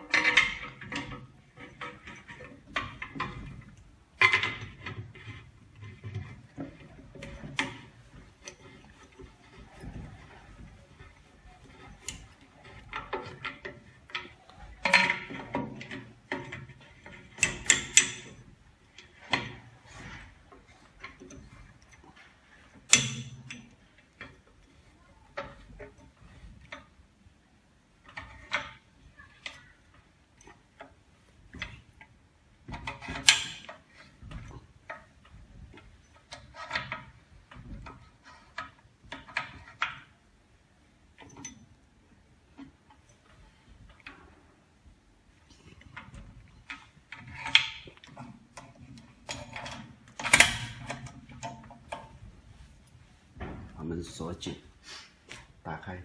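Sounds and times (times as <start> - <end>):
clamp handles clicking: 0.0 - 27.0, 28.0 - 40.2, 41.1 - 41.8, 45.6 - 52.3.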